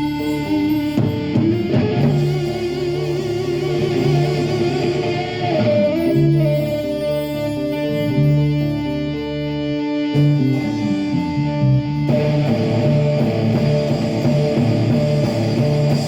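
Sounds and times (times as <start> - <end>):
bass line: 0.0 - 16.0
electric guitar lead: 0.0 - 16.0.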